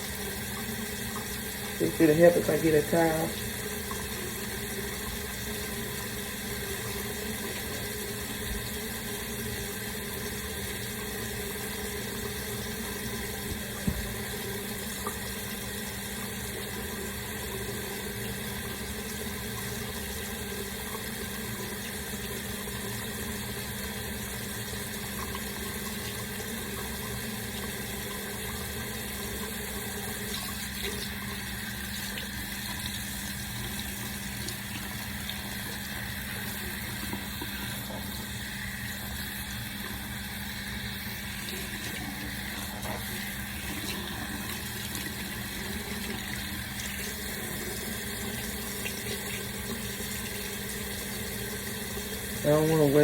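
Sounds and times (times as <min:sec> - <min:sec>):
tap water running: 0:00.0 - 0:53.0.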